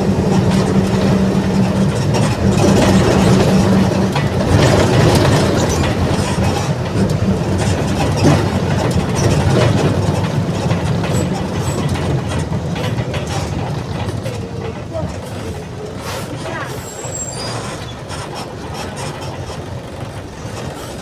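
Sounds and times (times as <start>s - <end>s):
bus diesel engine running: 0.0s - 21.0s
rattles and clicks: 0.0s - 21.0s.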